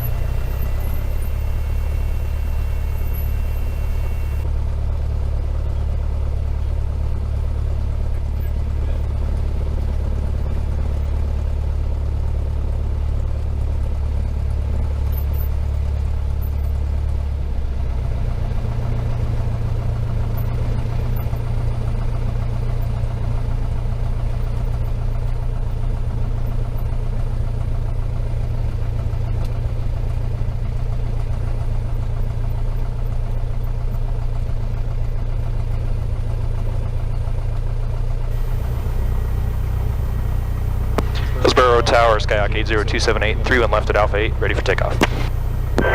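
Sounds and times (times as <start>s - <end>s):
light aircraft engine and propeller: 0.0s - 45.9s.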